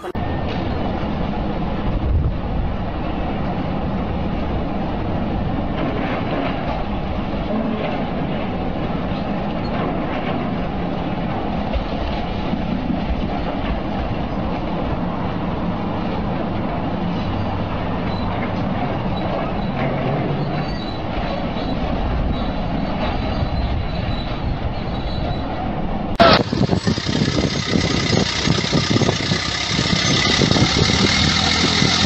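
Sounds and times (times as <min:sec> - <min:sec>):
excavator diesel engines running: 0:00.0 - 0:32.0.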